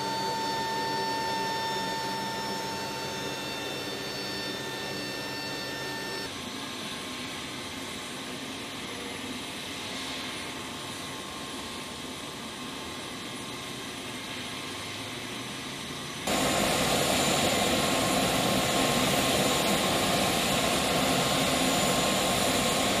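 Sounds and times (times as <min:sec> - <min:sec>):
aircraft turbine whine: 0:00.0 - 0:23.0.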